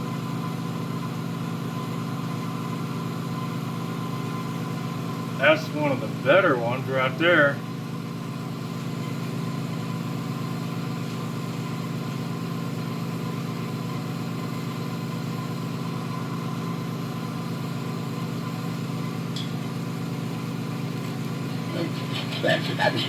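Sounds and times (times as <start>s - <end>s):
shop machine hum: 3.1s - 23.0s.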